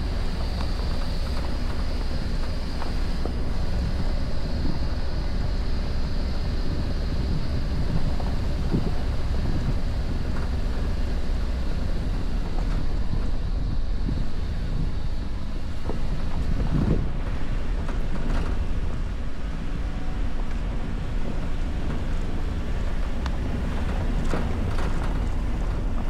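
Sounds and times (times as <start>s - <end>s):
engine and tyres rumbling: 0.0s - 26.0s
wind buffeting microphone: 0.0s - 26.0s.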